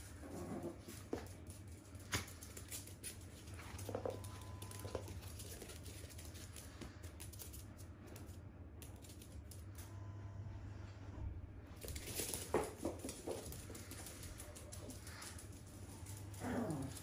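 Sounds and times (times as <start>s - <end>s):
dog claws tapping on floor: 0.9s - 9.6s, 11.8s - 17.0s.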